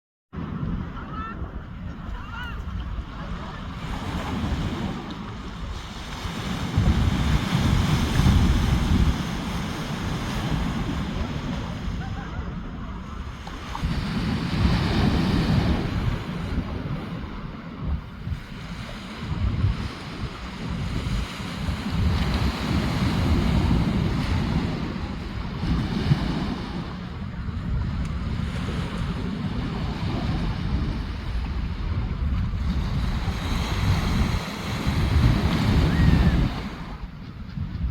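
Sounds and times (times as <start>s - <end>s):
surf washing on shore: 0.4s - 37.9s
wind buffeting microphone: 0.4s - 37.9s.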